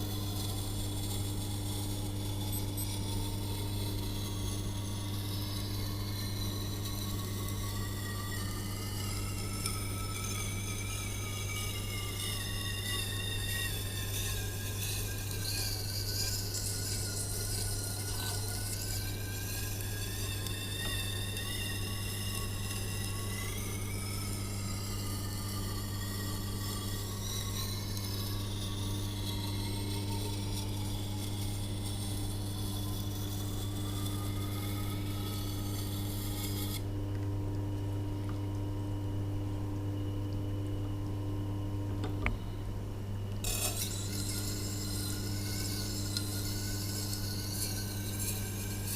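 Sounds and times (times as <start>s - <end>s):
steel scraping on stone: 0.0s - 36.8s, 43.4s - 48.9s
wet grinder motor hum: 0.0s - 37.0s, 43.2s - 48.9s.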